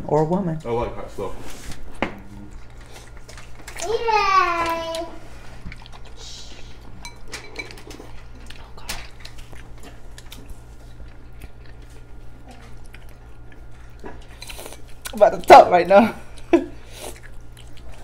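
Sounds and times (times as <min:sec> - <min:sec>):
people chewing and slurping: 0:00.7 - 0:18.0.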